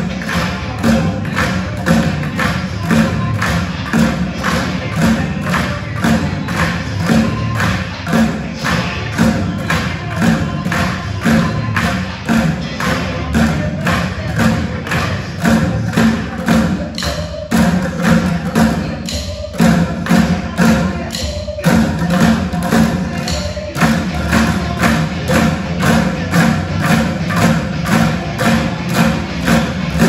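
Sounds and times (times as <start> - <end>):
drumsticks beating plastic buckets: 0.0 - 30.0.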